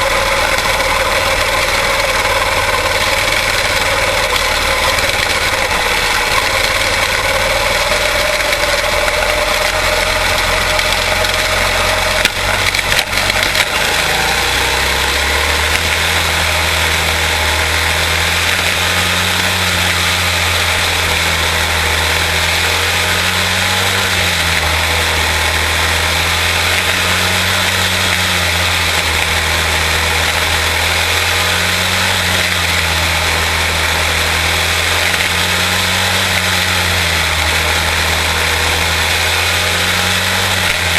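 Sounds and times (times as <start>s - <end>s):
race car engines running: 0.0s - 40.9s.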